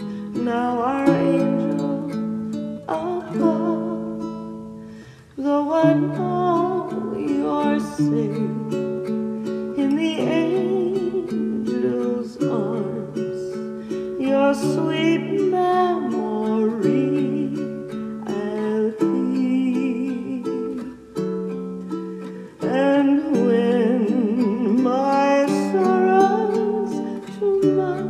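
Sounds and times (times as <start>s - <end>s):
acoustic guitar ballad: 0.0s - 28.0s.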